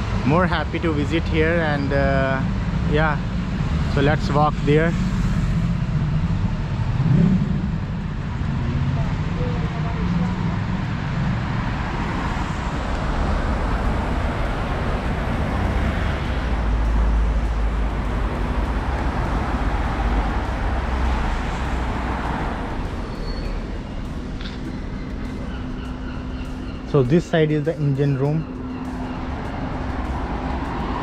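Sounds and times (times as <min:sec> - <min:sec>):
engine rumble: 0:00.0 - 0:31.0.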